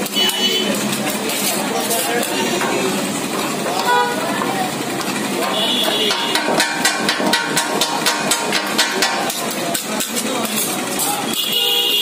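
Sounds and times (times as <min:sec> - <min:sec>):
steel blades chopping on iron griddle: 0:00.0 - 0:11.4.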